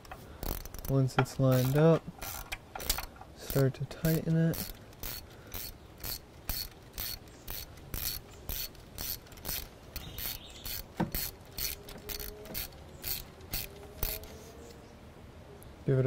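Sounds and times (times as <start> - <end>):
ratchet wrench clicking: 0.0 - 14.4.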